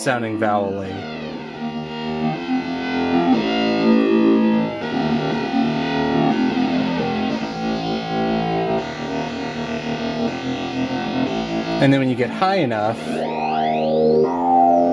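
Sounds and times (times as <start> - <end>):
buzzy synthesizer notes: 0.0 - 14.9.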